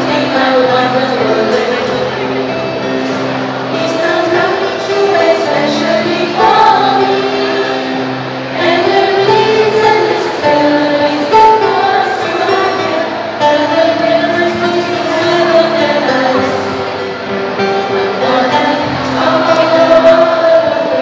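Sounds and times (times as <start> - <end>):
group of women singing: 0.0 - 2.1, 3.7 - 21.0
acoustic guitar: 0.0 - 21.0.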